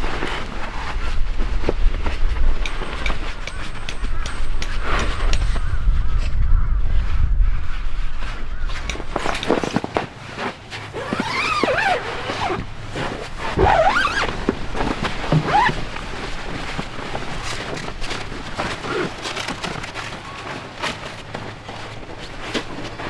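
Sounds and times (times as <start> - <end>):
rustling and crunching: 0.0 - 5.8, 7.8 - 23.0.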